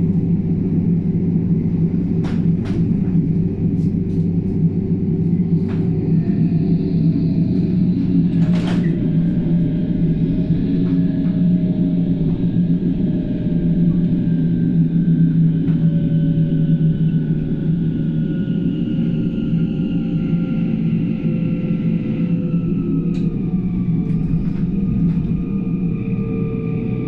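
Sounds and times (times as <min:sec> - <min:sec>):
train running gear rumble: 0:00.0 - 0:27.0.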